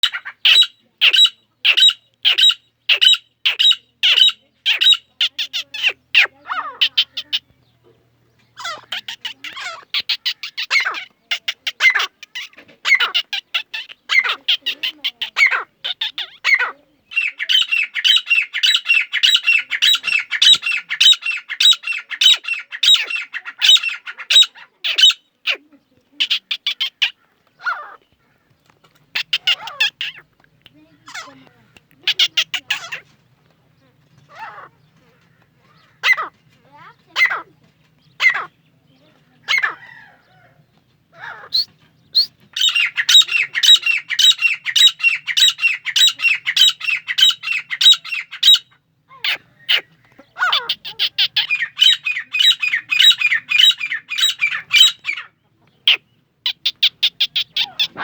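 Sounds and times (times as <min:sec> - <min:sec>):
bird calling repeatedly: 0:00.0 - 0:07.7, 0:08.4 - 0:28.4, 0:29.1 - 0:33.2, 0:34.2 - 0:40.4, 0:41.1 - 0:58.0.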